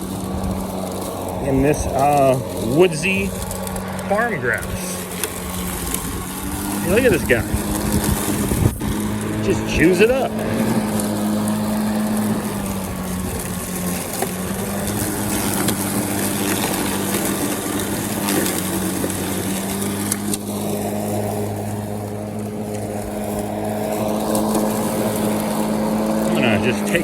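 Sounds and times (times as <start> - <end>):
battery lawn mower humming: 0.0 - 27.0
grass cutting rushing noise: 0.0 - 27.0.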